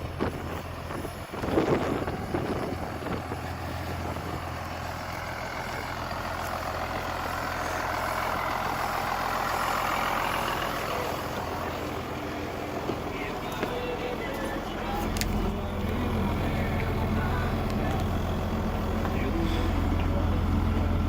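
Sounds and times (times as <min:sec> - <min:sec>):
diesel bus engine idling: 0:00.0 - 0:21.0.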